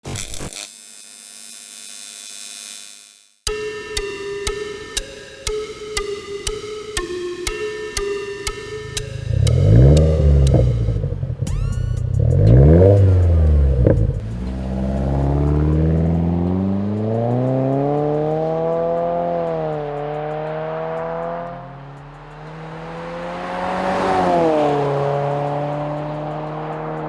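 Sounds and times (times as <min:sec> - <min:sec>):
car engine revving: 0:03.5 - 0:27.0.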